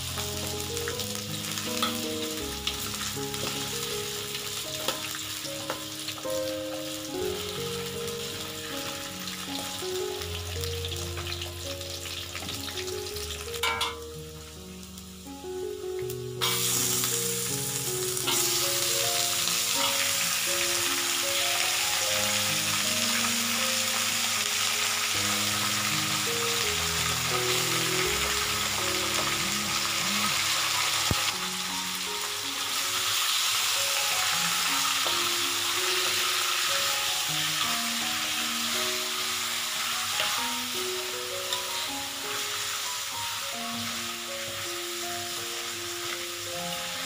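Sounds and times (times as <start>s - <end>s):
chicken frying in hot oil: 0.0s - 47.0s
soft background music: 0.0s - 47.0s.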